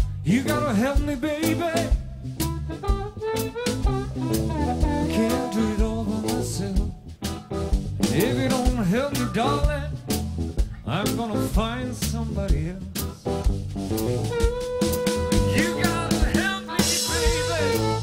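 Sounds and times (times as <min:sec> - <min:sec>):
beatboxing into a microphone: 0:00.0 - 0:18.0.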